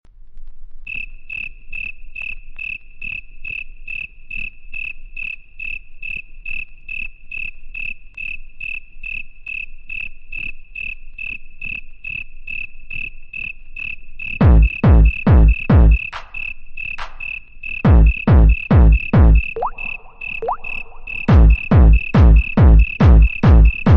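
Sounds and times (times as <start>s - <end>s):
cricket chirps: 0.8s - 23.9s.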